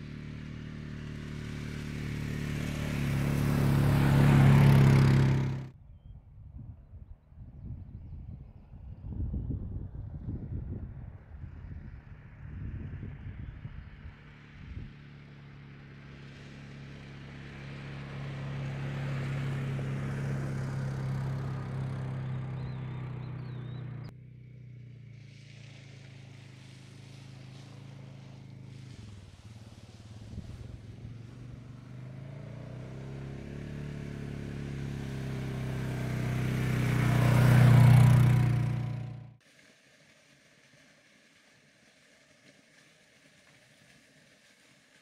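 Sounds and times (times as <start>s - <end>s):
quad bike engine: 0.0s - 5.8s, 10.4s - 45.0s.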